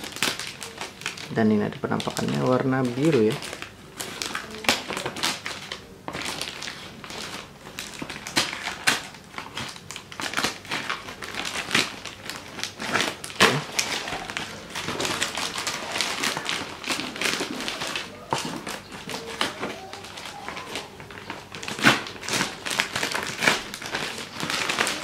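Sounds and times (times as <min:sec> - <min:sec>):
plastic wrapping crinkling: 0:00.0 - 0:25.0
scissors cutting plastic: 0:01.9 - 0:25.0.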